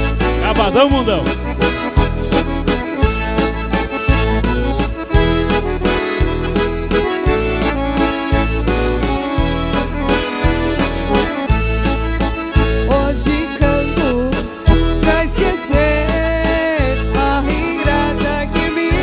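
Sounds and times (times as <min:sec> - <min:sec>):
accordion melody: 0:00.0 - 0:19.0
bass line: 0:00.0 - 0:19.0.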